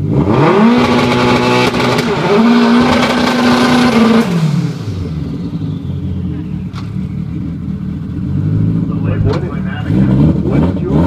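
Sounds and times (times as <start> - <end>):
drag car engine revving: 0.0 - 11.0.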